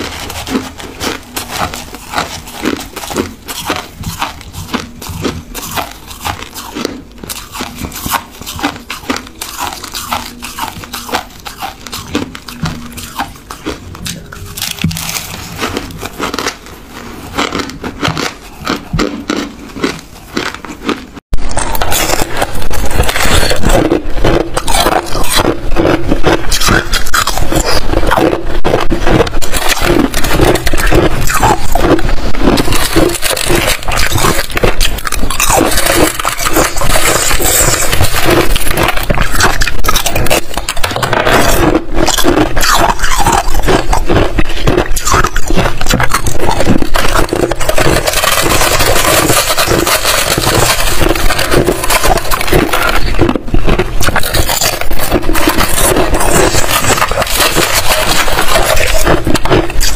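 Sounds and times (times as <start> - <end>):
ice crunched between teeth: 0.0 - 59.9.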